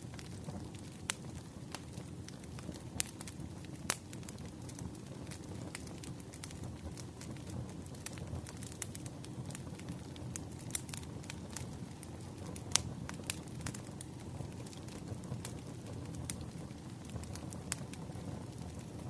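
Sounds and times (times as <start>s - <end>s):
firewood crackling and popping: 0.0s - 19.0s
low rumble of flames: 0.0s - 19.0s.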